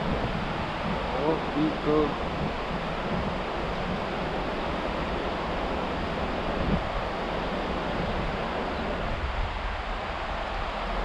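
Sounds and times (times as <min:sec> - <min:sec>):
stream flowing: 0:00.0 - 0:11.0
wind buffeting microphone: 0:00.0 - 0:11.0.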